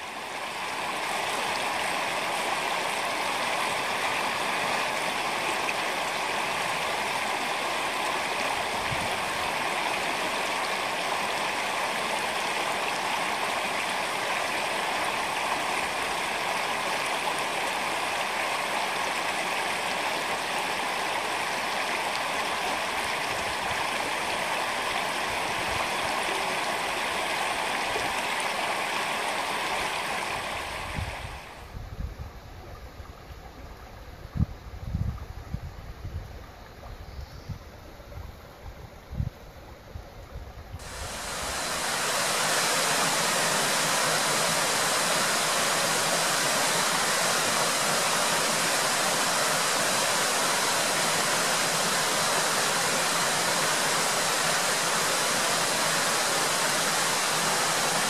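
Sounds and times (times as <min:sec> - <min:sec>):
stream flowing: 0:00.0 - 0:37.1, 0:37.8 - 0:58.0.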